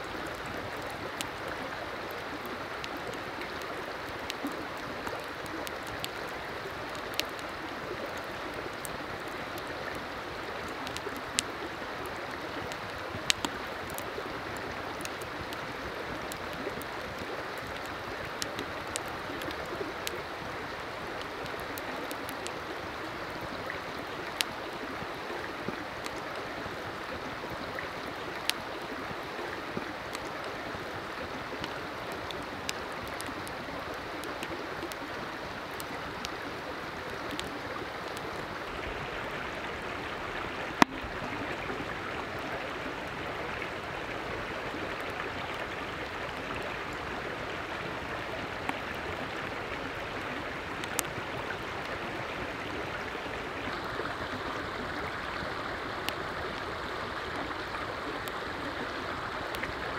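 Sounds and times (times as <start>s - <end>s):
creek water running: 0.0s - 59.9s.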